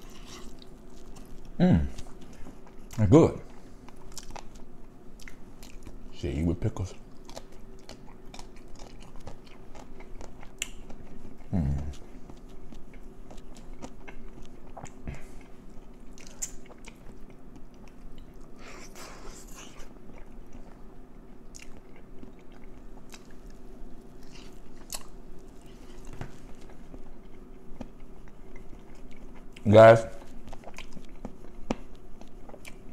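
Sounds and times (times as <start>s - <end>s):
chewing and biting food: 0.0s - 6.1s, 6.9s - 32.9s.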